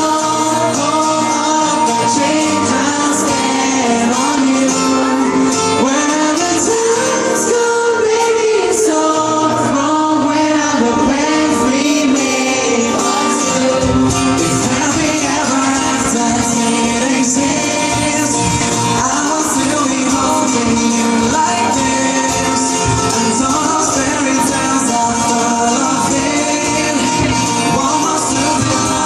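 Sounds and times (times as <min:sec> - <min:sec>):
live pop band playing: 0:00.0 - 0:29.0
person singing: 0:00.0 - 0:29.0.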